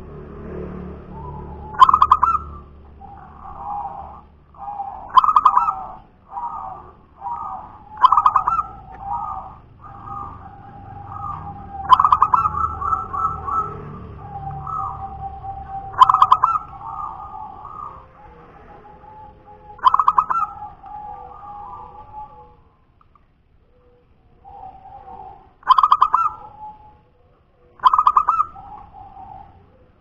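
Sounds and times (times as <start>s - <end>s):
dove cooing song: 1.0s - 23.0s, 23.6s - 30.0s.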